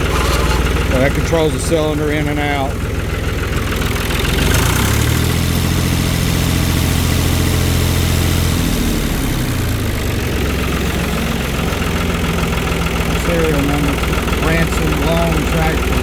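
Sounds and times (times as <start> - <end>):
diesel tractor engine idling: 0.0 - 16.0.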